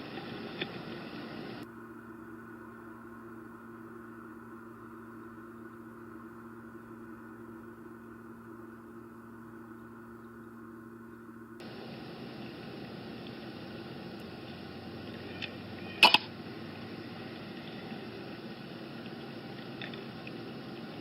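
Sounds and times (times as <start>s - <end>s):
low electrical hum with hiss: 0.0s - 21.0s.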